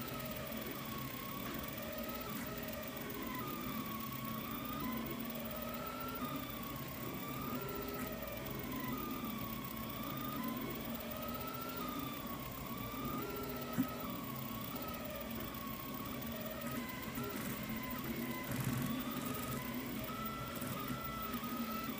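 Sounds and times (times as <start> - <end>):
stepper motors whining: 0.0 - 21.9.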